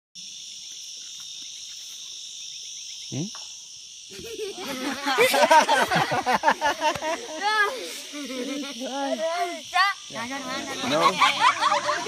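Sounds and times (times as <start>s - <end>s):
insects buzzing and trilling: 0.2s - 12.0s.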